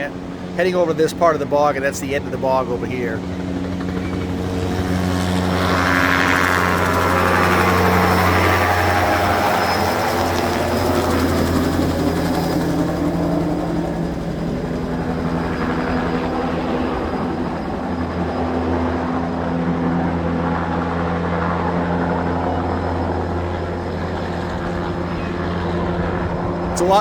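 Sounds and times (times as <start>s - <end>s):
helicopter rotor and engine drone: 0.0s - 27.0s.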